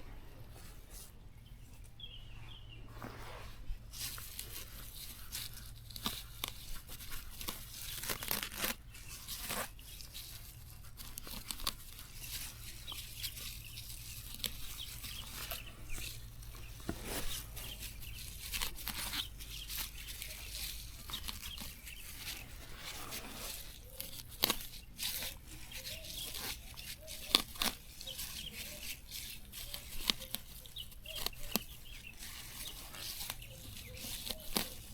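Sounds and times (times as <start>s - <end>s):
tearing and rustling: 2.9s - 34.9s.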